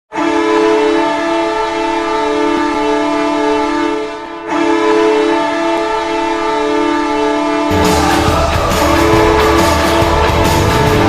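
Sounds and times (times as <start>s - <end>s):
goal horn blast: 0.1s - 11.0s.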